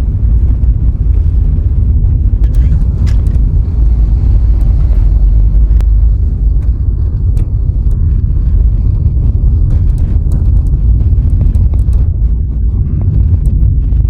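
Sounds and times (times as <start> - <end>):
car road rumble: 0.0 - 14.0.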